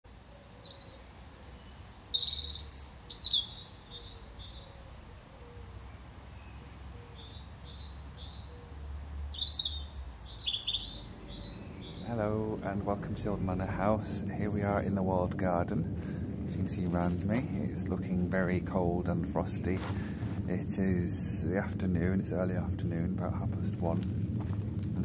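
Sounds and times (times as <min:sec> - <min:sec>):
robin singing: 0:00.1 - 0:25.0.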